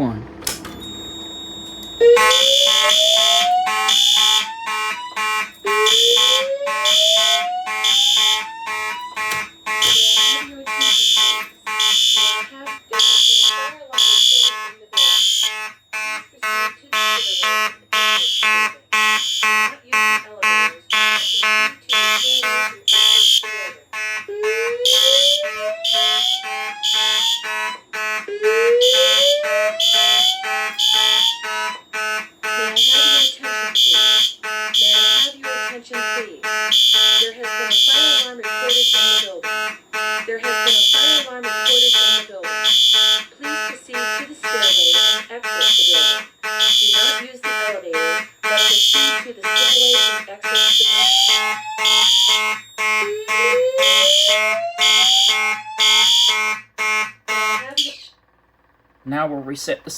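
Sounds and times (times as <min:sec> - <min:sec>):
fire alarm horns pulsing: 0:00.0 - 0:58.2, 0:59.0 - 0:59.9.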